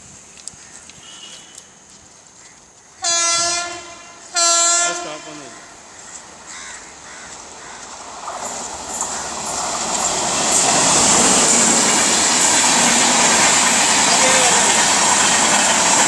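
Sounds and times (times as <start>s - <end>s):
passenger train passing at speed: 2.8s - 16.0s.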